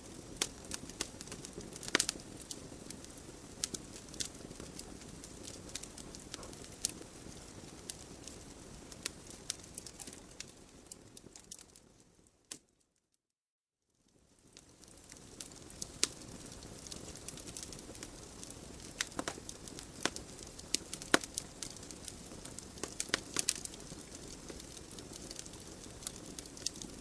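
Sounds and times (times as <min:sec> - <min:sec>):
wood fire crackling: 0:00.0 - 0:12.7, 0:14.1 - 0:27.0.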